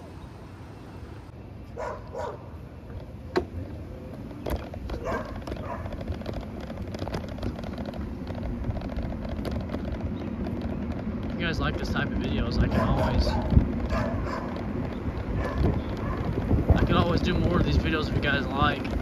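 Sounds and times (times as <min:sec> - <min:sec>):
wheels rolling on pavement: 0:00.0 - 0:19.0.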